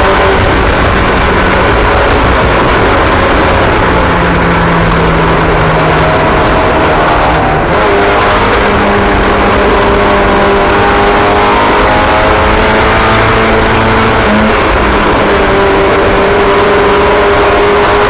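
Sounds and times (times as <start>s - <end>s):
small race car engines: 0.0s - 18.0s.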